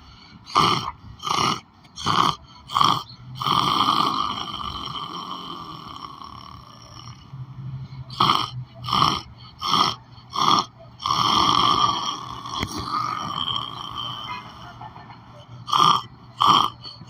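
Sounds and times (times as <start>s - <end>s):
short snorts: 0.0s - 7.3s, 7.9s - 14.8s, 15.4s - 17.0s
person snoring: 0.0s - 14.8s, 15.4s - 17.0s.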